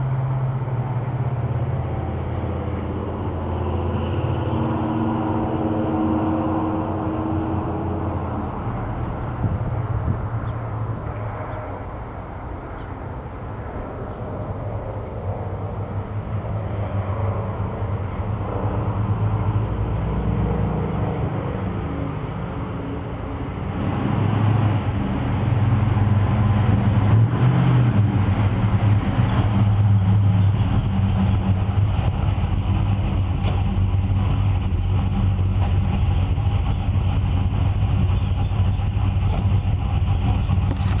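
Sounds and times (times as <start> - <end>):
car engine running: 0.0 - 24.1, 24.8 - 41.0.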